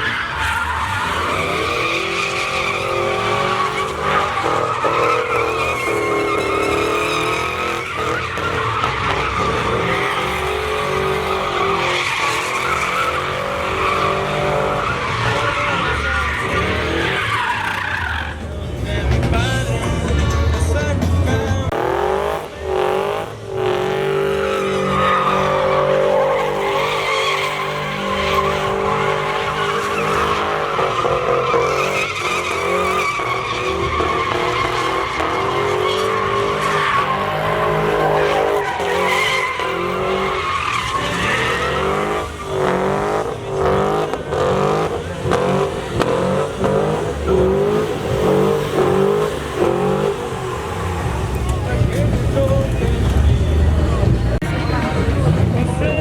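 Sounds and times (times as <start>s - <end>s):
tires squealing: 0.0s - 56.0s
truck engine at high revs: 0.0s - 56.0s.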